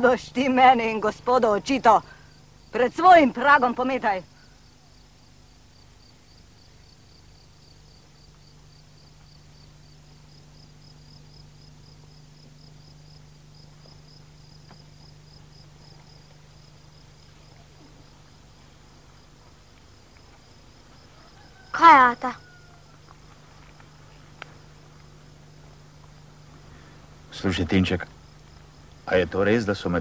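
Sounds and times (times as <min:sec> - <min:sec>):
faint cricket chirping: 0:00.0 - 0:30.0
low steady hum: 0:00.0 - 0:30.0.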